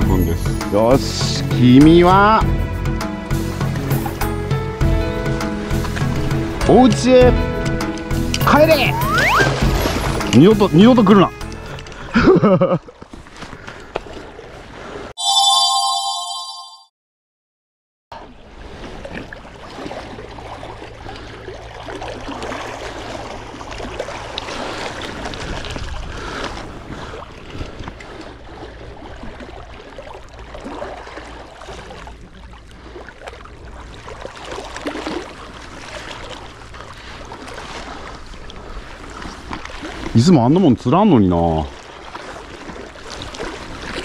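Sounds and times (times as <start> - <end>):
sea water lapping: 0.0 - 15.1, 18.2 - 44.0.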